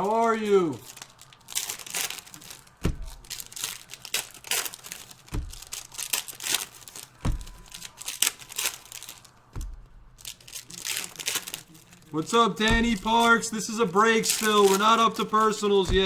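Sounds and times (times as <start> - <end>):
card pack wrappers crinkling: 0.0 - 16.0
dull thumps: 0.8 - 11.6, 12.5 - 14.8, 15.8 - 16.0.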